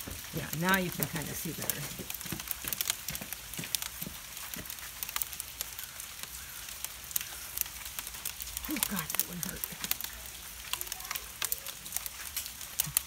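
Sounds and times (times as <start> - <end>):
hail ticking on wooden table: 0.0 - 13.0.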